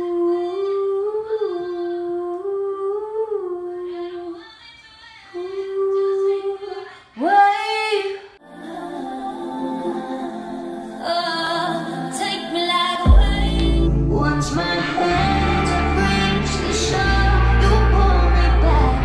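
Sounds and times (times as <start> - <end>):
hissy recording of singing: 0.0 - 19.0.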